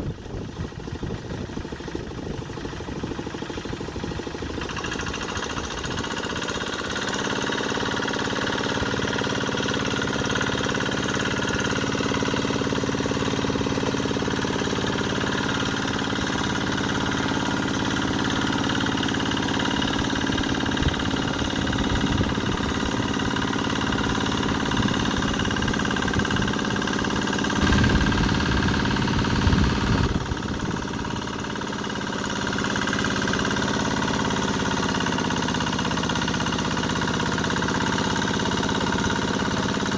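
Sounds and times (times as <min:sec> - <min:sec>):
hand tractor engine running: 0:00.2 - 0:39.9.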